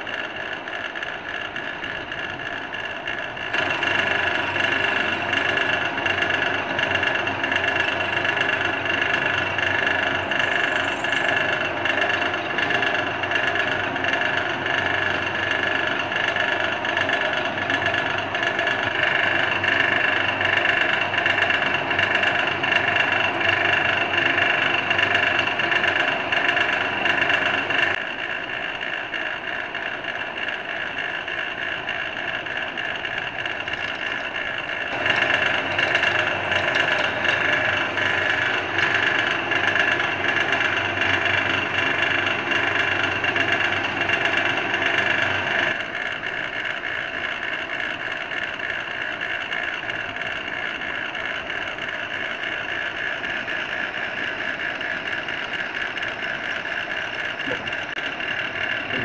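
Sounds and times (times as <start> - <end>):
drill press motor whining: 0.0 - 59.0.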